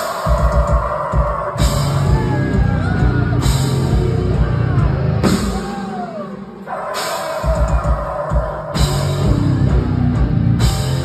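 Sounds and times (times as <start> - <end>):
heavy metal band playing live: 0.0 - 11.0.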